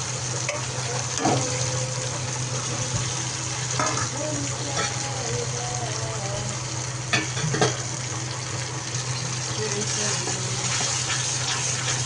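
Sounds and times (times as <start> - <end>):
fish sizzling in a pan: 0.0 - 12.0
low hum: 0.5 - 11.6.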